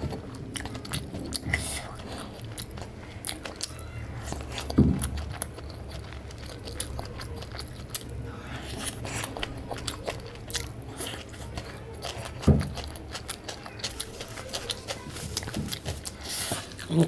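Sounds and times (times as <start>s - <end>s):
mouth chewing food: 0.0s - 17.0s.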